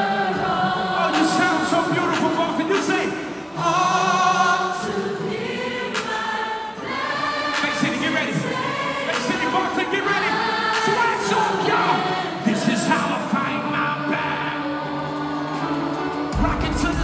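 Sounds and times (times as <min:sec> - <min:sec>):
gospel choir with accompaniment: 0:00.0 - 0:17.0.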